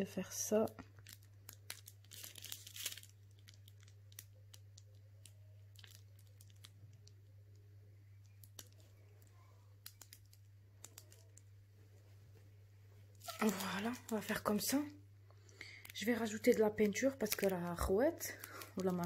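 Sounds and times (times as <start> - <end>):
low steady hum: 0.0 - 19.0
small handling clicks and crinkles: 0.5 - 19.0.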